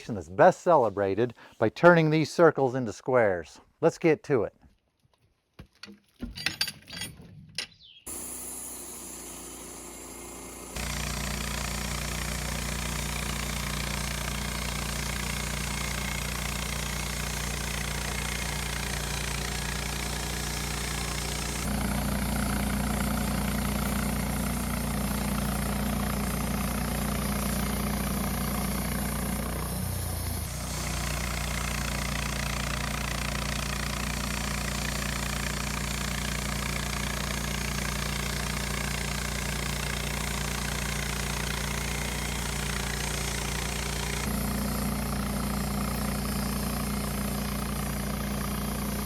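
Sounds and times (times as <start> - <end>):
band sawmill engine drone: 8.1 - 49.0.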